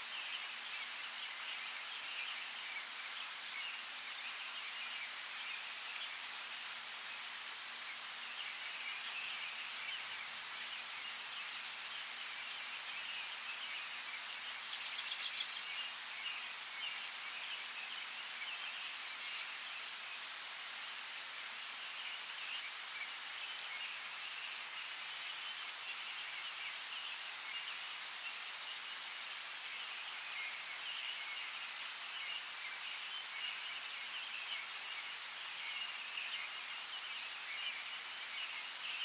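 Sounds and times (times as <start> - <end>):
light rain: 0.0 - 39.0.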